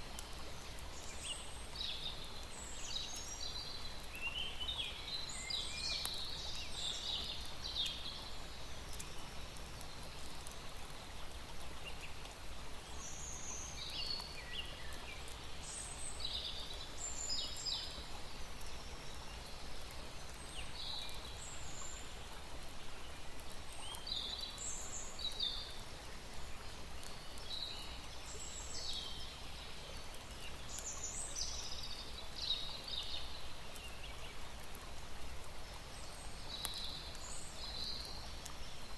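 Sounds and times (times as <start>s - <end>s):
small birds chirping: 0.2s - 12.2s, 12.8s - 34.9s, 35.5s - 38.9s.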